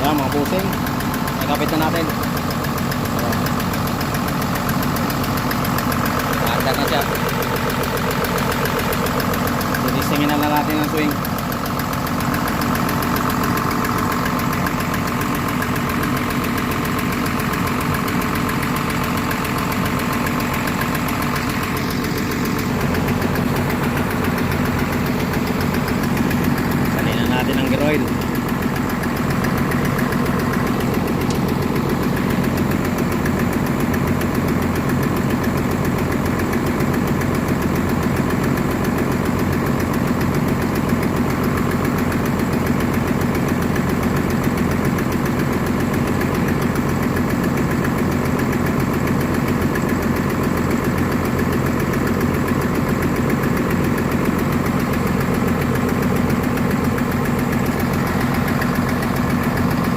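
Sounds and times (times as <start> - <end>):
excavator diesel engine idling: 0.0 - 59.9.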